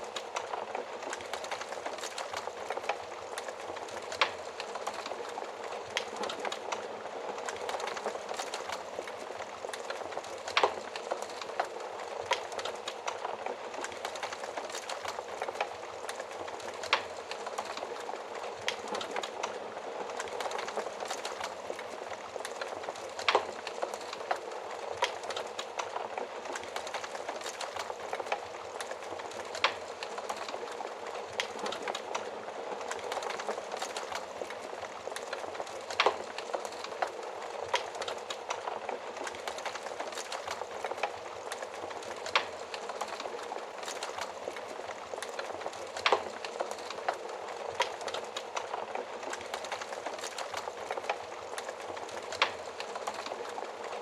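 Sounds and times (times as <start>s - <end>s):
fire crackling and popping: 0.0s - 54.0s
wood fire hissing: 0.0s - 54.0s.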